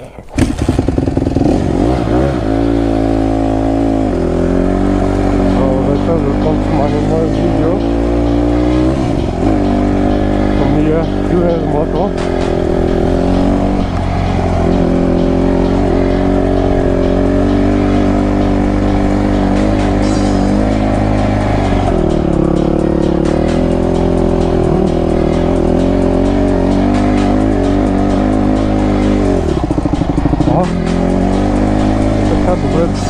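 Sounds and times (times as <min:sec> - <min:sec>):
motocross bike engine: 0:00.4 - 0:33.0.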